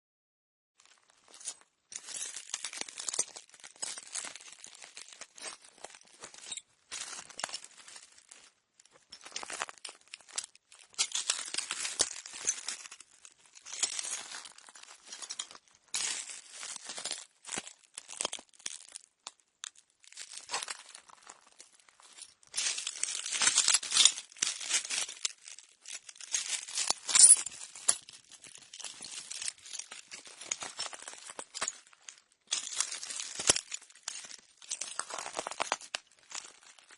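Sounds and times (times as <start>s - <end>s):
footsteps crunching on broken glass: 0.8s - 36.9s.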